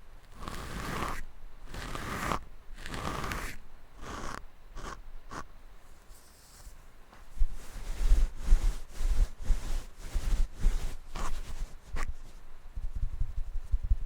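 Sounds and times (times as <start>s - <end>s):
scratching on microphone: 0.3s - 14.0s.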